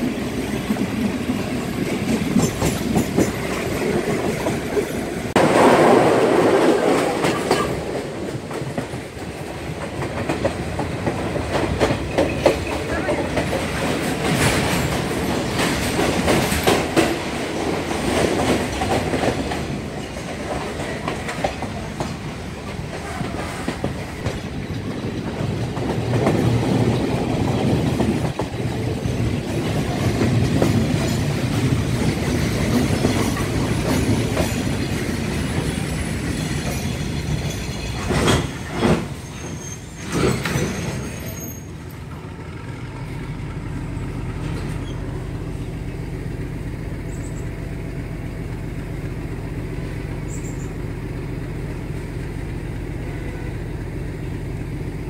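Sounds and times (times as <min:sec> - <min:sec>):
train rumble and wheel clatter: 0:00.0 - 0:55.0.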